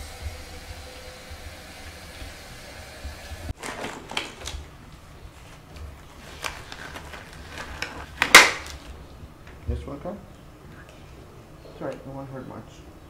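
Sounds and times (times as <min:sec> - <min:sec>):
kitchen room noise: 0:00.0 - 0:13.0.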